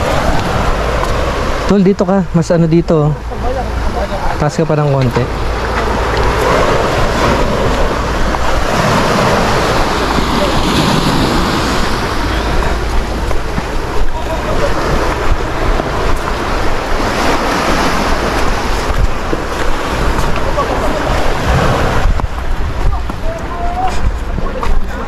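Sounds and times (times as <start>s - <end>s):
sea surf on rocky shore: 0.0s - 25.0s
wind buffeting microphone: 0.0s - 25.0s.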